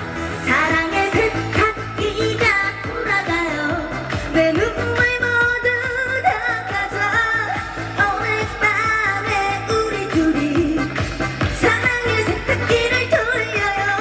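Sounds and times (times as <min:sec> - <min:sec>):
music with steady beat: 0:00.0 - 0:14.0
woman singing: 0:00.3 - 0:14.0.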